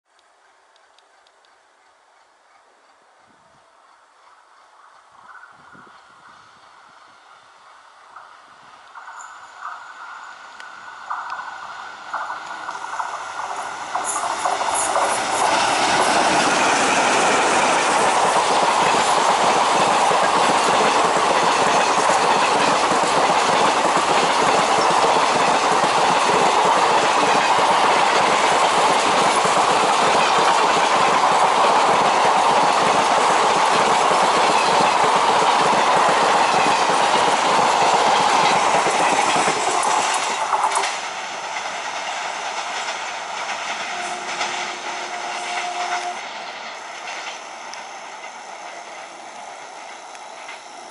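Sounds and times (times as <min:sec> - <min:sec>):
train wheels clacking on rails: 0:08.0 - 0:50.9.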